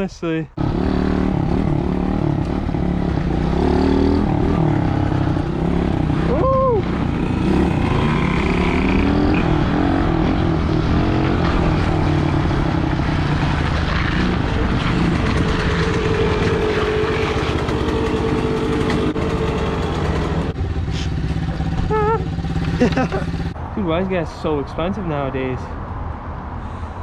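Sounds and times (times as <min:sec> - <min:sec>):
dirt bike engine running: 0:00.7 - 0:23.6.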